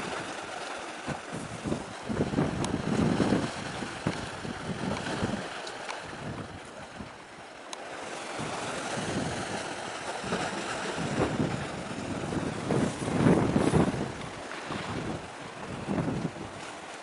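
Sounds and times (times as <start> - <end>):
sea waves: 0.0 - 17.0
wind gusting on microphone: 1.0 - 7.3, 8.3 - 16.8.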